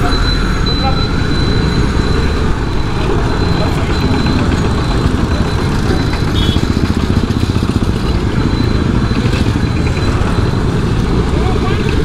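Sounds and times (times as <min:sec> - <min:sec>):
motorcycle engines in traffic: 0:00.0 - 0:12.0.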